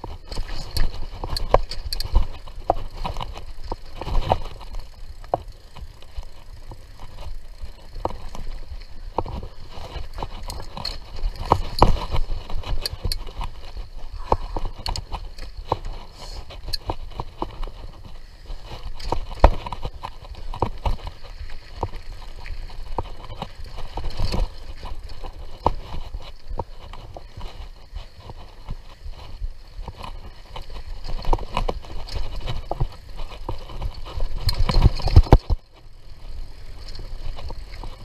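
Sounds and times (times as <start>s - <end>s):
bike clicks and knocks: 0.0s - 38.0s.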